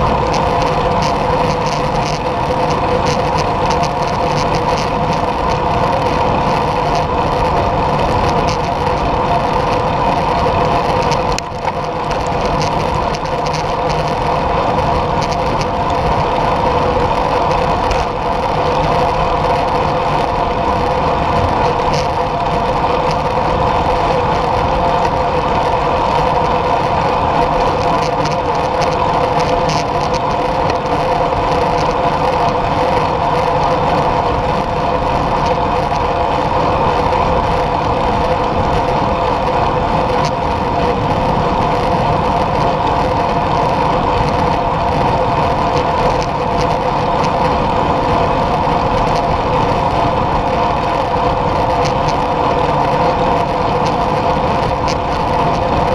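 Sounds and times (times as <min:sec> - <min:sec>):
wind and road noise: 0:00.0 - 0:55.9.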